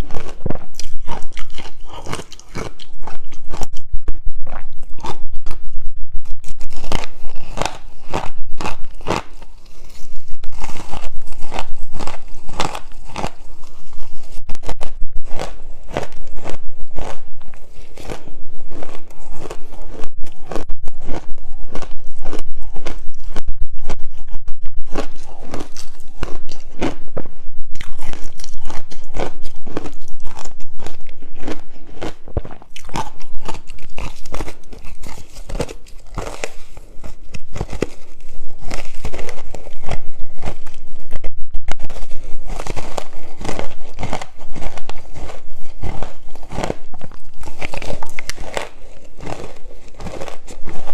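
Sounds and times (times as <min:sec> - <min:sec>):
person crunching ice: 0:00.0 - 0:05.7, 0:06.4 - 0:50.9.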